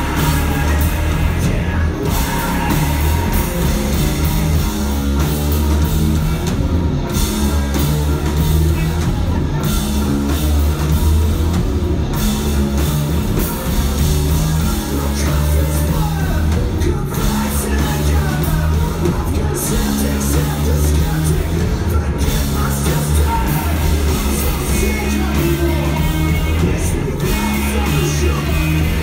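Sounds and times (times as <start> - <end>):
held bass notes: 0.0 - 29.0
live rock band: 0.0 - 29.0.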